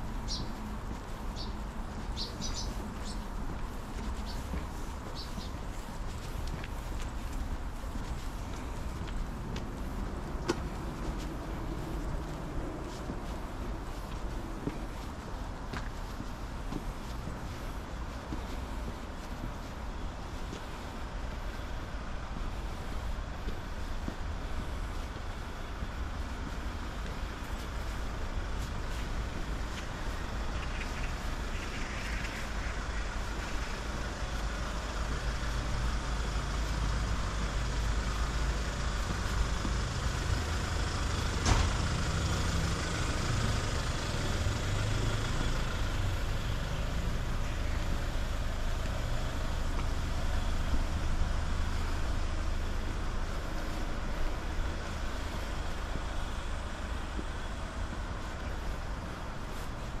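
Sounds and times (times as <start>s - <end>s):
road traffic rumble: 0.0s - 60.0s.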